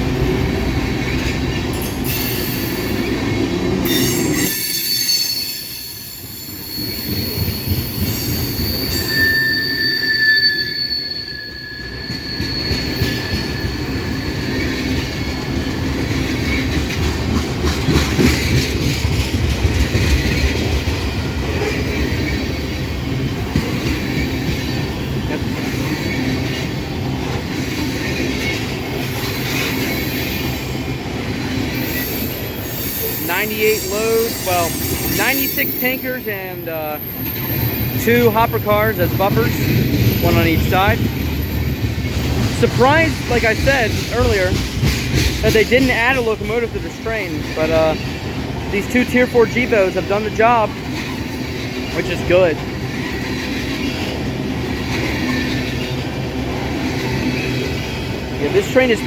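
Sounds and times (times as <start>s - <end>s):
rumble of train wheels: 0.0s - 59.0s
train wheels squealing on rail: 0.8s - 59.0s.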